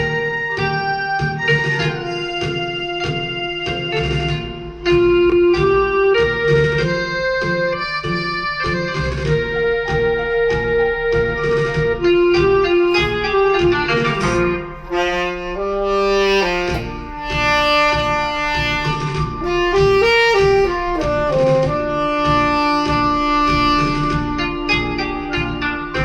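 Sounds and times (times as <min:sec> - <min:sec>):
instrumental music from speaker: 0:00.0 - 0:26.0.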